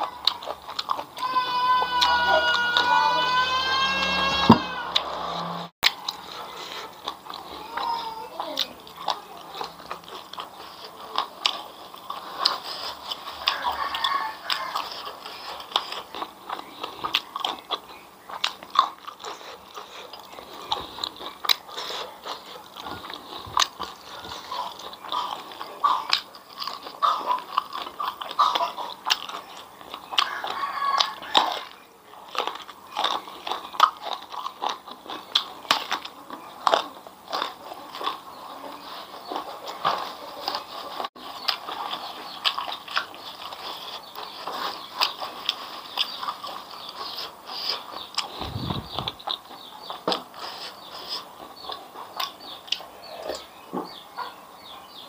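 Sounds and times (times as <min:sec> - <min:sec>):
crunchy food chewing: 0:00.0 - 0:55.0.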